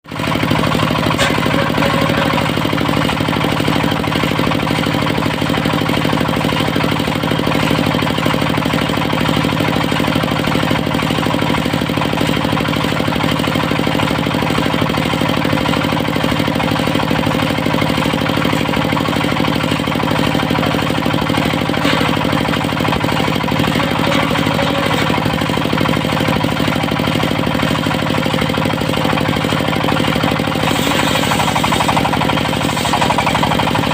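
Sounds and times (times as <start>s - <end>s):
sawmill diesel engine running: 0.0s - 33.9s.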